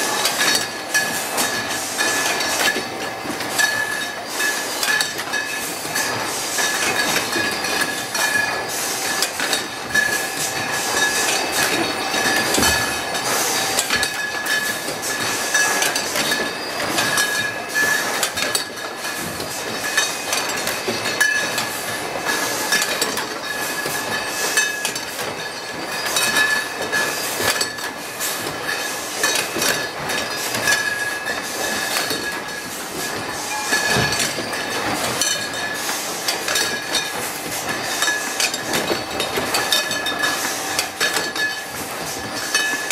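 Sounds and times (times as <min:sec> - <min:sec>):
conveyor machine clatter: 0:00.0 - 0:42.9
glass bottles clinking: 0:00.3 - 0:27.9, 0:28.6 - 0:42.9.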